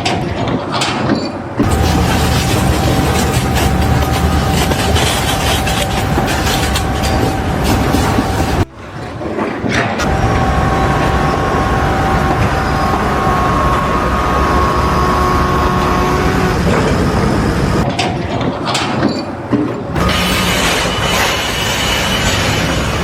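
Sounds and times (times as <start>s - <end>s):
heavy machine running: 0.0s - 23.0s.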